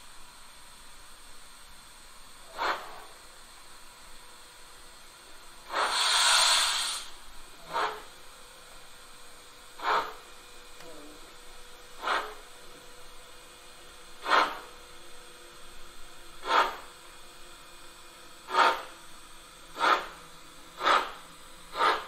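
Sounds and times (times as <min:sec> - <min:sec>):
steam hiss: 0:02.0 - 0:22.0.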